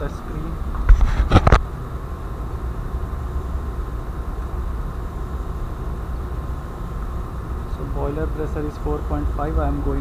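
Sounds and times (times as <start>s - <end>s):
engine-room machinery drone: 0.0s - 10.0s.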